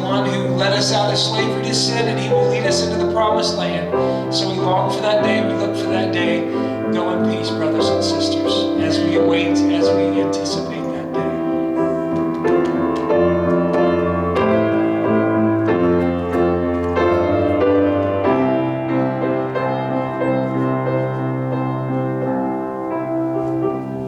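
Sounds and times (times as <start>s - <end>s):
piano playing slow chords: 0.0s - 24.0s.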